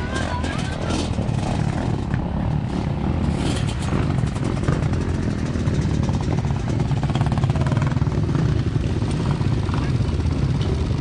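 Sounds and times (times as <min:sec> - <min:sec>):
motocross motorcycle engines: 0:00.0 - 0:11.0.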